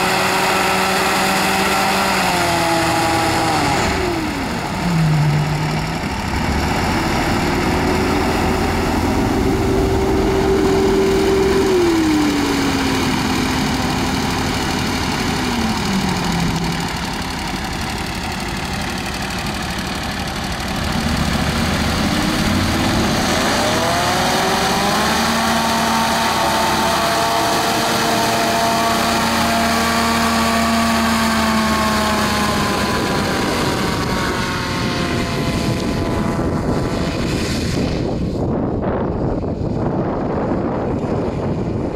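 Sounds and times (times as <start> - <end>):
hovercraft engine and fan: 0.0 - 41.9.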